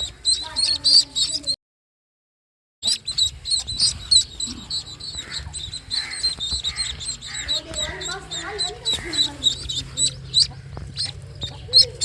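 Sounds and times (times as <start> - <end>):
ducklings peeping: 0.0 - 1.6, 2.8 - 12.0.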